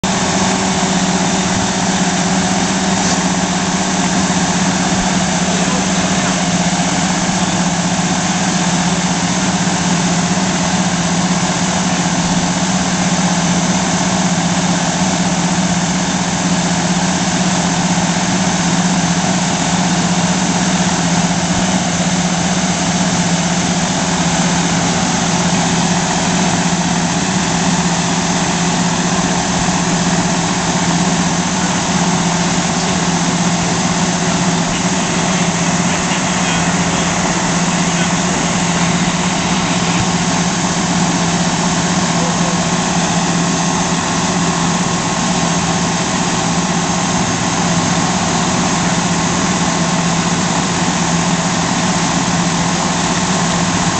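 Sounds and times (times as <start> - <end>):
diesel fire engine idling: 0.0 - 53.9.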